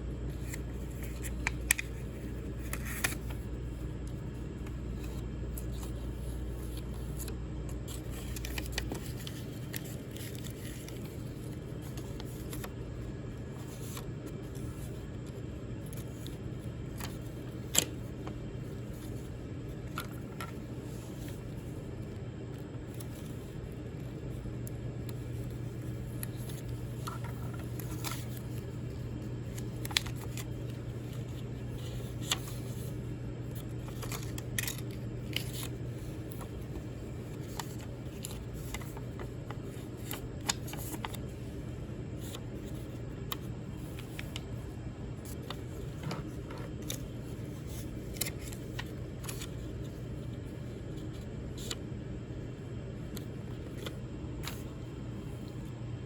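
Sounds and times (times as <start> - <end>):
fan humming: 0.0 - 56.0.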